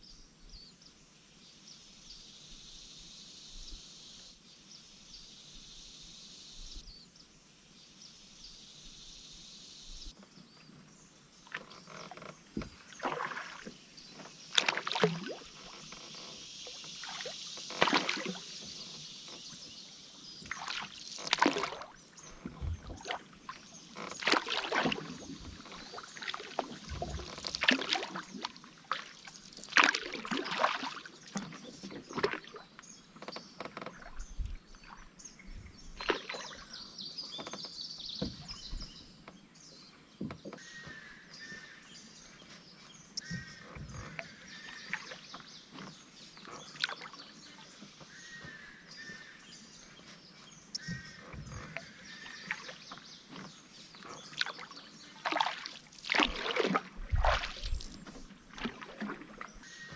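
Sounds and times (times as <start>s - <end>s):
paddle splashes in water: 10.1s - 59.9s.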